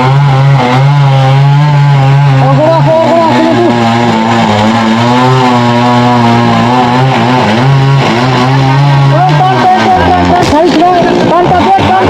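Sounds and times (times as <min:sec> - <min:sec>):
chainsaw engine running: 0:00.0 - 0:12.0.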